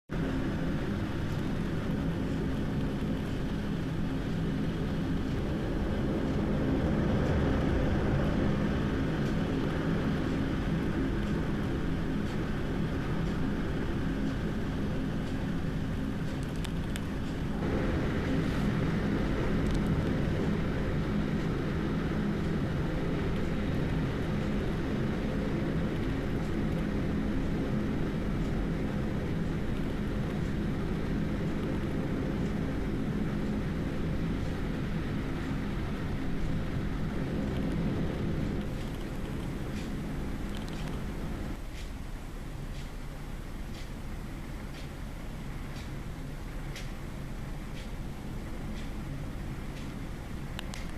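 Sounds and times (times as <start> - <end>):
wind rumble on microphone: 0.1 - 41.6
storm wind gusting through trees: 0.1 - 50.9.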